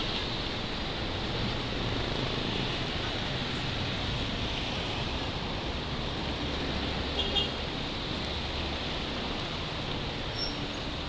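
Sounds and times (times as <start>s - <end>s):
engine hum of passing vehicles: 0.0s - 11.0s
tyres hissing on wet road: 0.0s - 11.0s.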